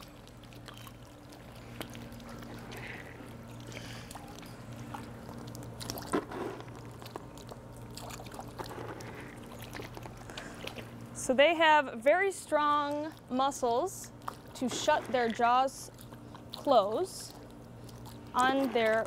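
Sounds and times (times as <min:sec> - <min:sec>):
small clicks and splashes: 0:00.0 - 0:11.0, 0:12.5 - 0:19.0
steady low hum: 0:00.0 - 0:19.0
water sloshing and trickling: 0:00.0 - 0:19.0.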